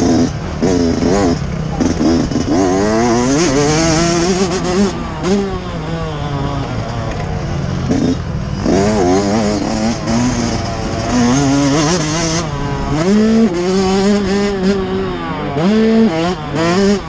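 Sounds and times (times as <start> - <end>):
motocross engine revving: 0.0 - 17.0.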